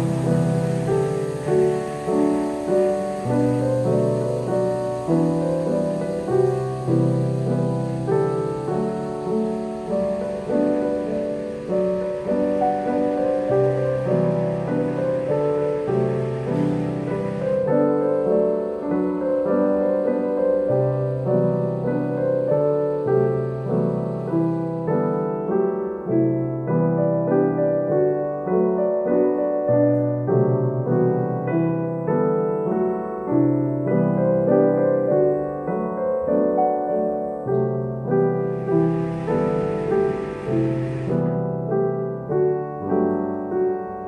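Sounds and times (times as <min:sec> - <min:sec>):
piano music: 0:00.0 - 0:44.0.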